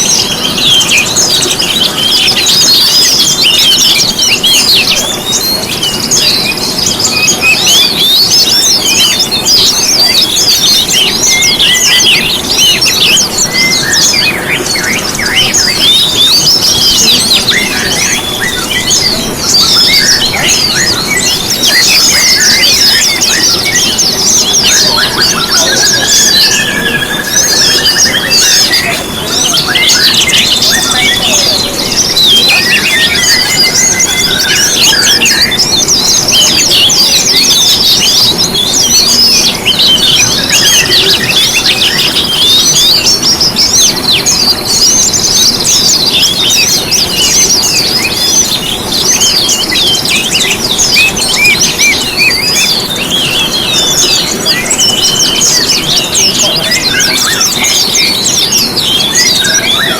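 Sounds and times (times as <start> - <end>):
lower steady bird trill: 0.0 - 59.9
songbirds chirping and trilling: 0.0 - 59.9.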